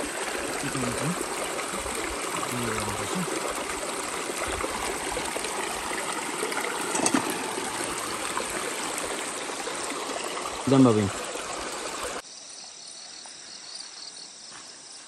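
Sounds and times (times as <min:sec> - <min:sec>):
rocky stream trickling: 0:00.0 - 0:12.2.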